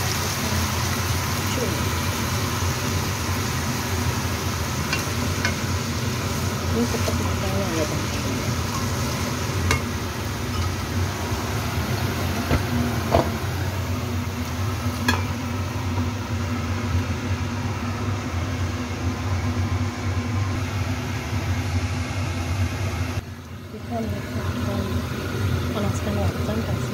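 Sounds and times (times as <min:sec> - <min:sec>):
mushrooms sizzling in a frying pan: 0:00.0 - 0:26.9.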